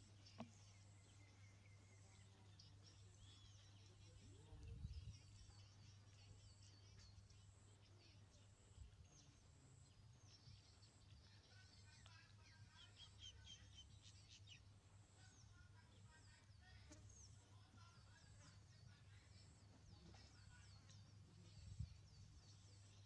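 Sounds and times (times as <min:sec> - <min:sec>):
bird chirps and calls: 0:00.0 - 0:23.0.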